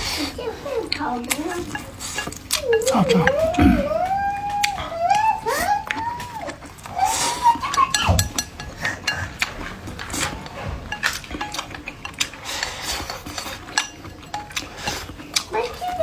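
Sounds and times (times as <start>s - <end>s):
dishes and utensils clinking: 0.1s - 16.0s.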